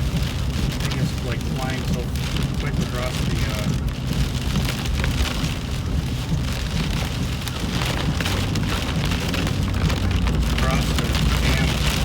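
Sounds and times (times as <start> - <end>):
rain pattering on car roof: 0.0 - 12.0
steady low rumble: 0.0 - 12.0.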